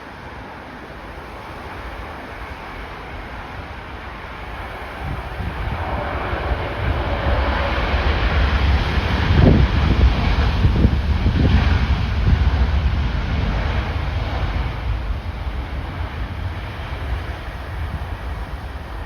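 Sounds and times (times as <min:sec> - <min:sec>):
jet airliner engine noise: 0:00.0 - 0:19.0
wind buffeting microphone: 0:01.2 - 0:19.0.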